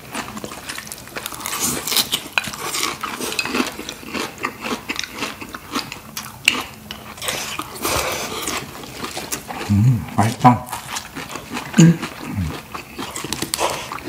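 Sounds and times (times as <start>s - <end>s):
person chewing noodles: 0.0s - 14.0s.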